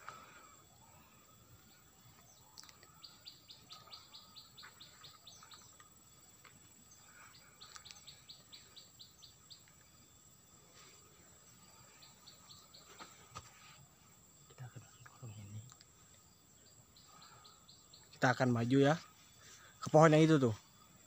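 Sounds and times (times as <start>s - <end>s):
small bird calling: 0.0s - 13.8s, 14.5s - 19.8s.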